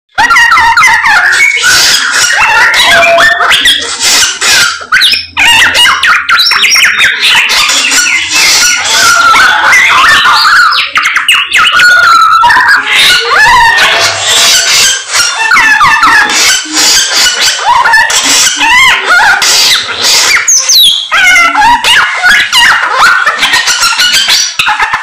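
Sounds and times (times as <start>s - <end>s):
bird chattering and whistling: 0.2s - 25.0s.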